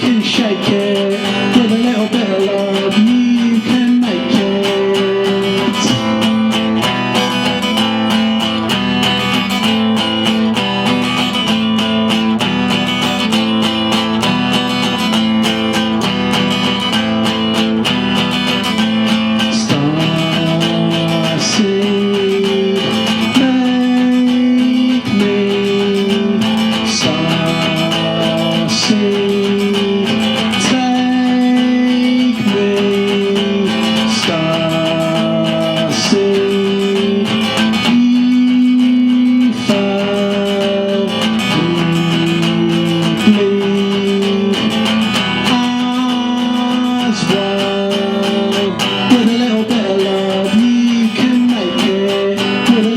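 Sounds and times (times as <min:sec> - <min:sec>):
acoustic guitar playing: 0:00.0 - 0:52.9.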